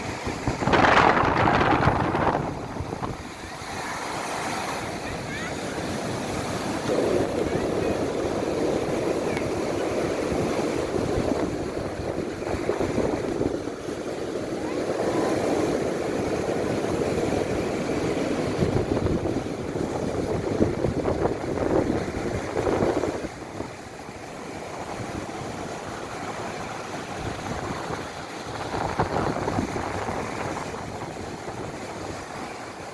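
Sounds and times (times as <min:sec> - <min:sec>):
strong wind: 0:00.0 - 0:32.9
waves surging: 0:00.0 - 0:32.9
wind buffeting microphone: 0:00.0 - 0:32.9.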